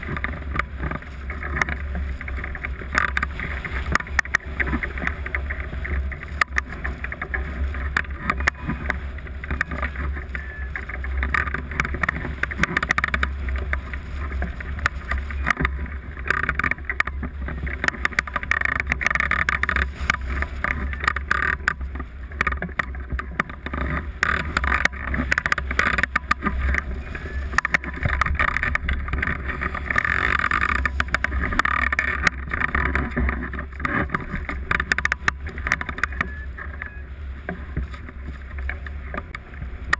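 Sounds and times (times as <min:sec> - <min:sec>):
small crackles: 0:00.0 - 0:39.9.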